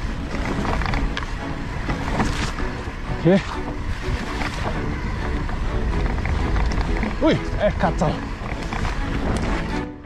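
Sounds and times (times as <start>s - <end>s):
tyres rumbling on dirt trail: 0.0s - 10.0s
wind rushing over microphone: 0.0s - 10.0s.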